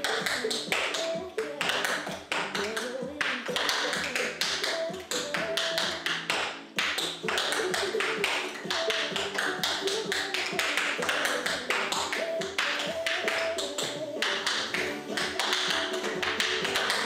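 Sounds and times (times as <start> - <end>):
background music with melody: 0.0 - 17.0
tap shoes on wooden board: 0.0 - 17.0.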